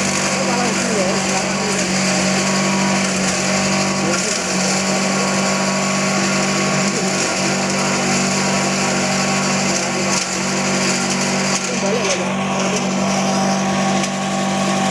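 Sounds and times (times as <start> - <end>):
leaf shredder machine humming: 0.0 - 14.9.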